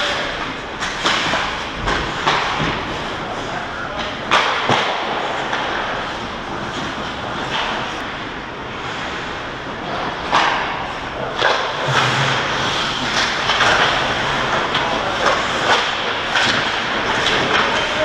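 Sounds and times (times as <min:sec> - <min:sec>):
hockey sticks and puck clacking: 0:00.0 - 0:08.2, 0:08.8 - 0:18.0
skates scraping ice: 0:00.0 - 0:18.0.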